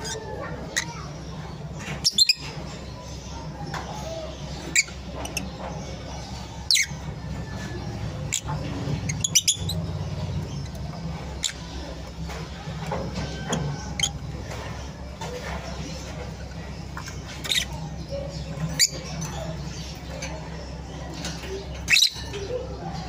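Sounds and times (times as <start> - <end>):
birds chirping and squawking: 0.0 - 23.0
steady low hum: 0.0 - 23.0.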